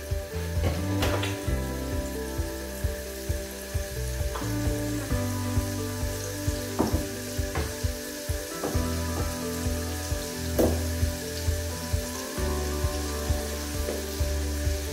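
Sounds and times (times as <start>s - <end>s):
food sizzling in hot oil: 0.0s - 14.9s
soft background music: 0.0s - 14.9s.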